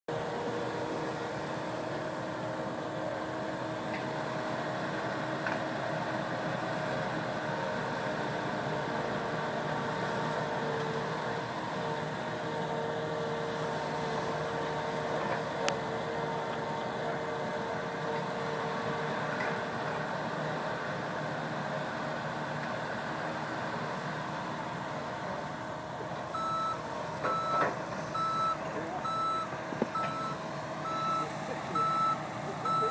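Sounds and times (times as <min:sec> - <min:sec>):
diesel engines running: 0:00.1 - 0:32.9.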